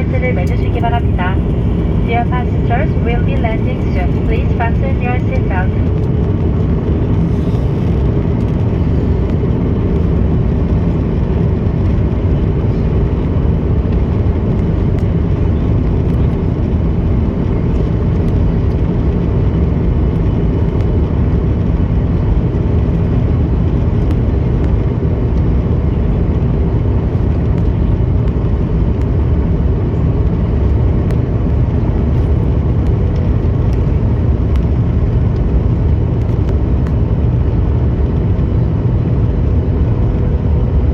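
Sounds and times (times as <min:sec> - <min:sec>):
airliner cabin engine roar: 0:00.0 - 0:40.9.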